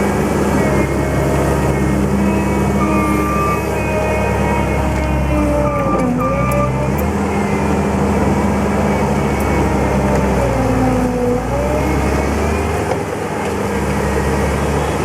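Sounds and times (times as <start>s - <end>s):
diesel engine running: 0.0s - 15.0s
whine changing pitch: 0.0s - 15.0s.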